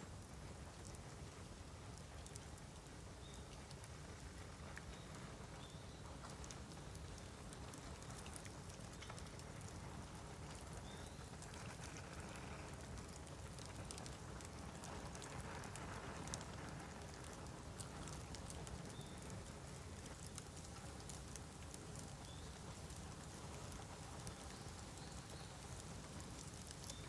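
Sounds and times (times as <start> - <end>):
bamboo crackling and popping in fire: 0.0 - 27.0.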